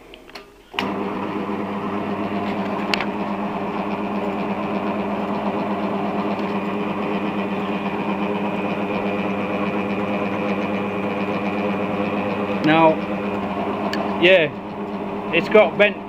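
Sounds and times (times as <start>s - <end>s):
drill motor humming: 0.8s - 16.0s.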